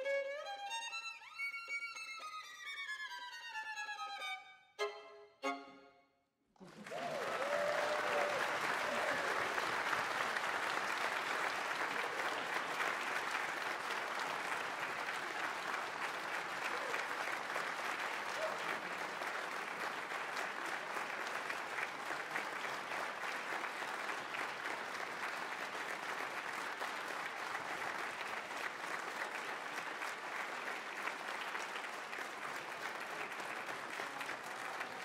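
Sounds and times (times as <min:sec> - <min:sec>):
audience applauding: 0:06.6 - 0:35.0.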